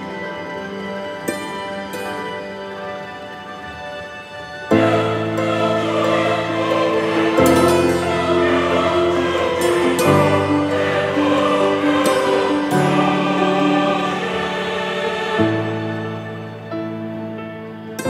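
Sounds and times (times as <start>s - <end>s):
slow sustained chords: 0.0s - 18.0s.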